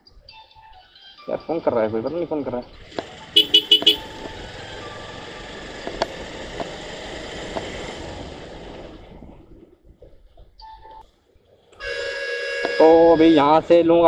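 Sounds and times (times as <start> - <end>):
motorcycle road noise: 1.6 - 14.0.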